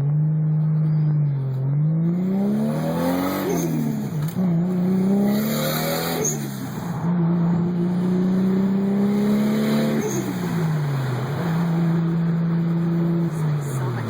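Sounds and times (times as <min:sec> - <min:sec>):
car engine revving through gears: 0:00.0 - 0:14.0.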